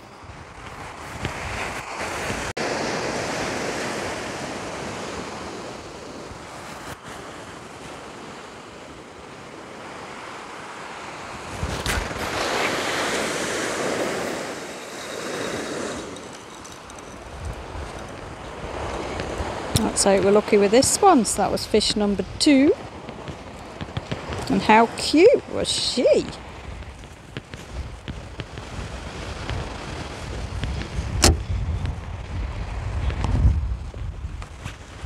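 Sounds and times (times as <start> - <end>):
surf breaking on beach: 0.0 - 21.8, 22.6 - 33.6.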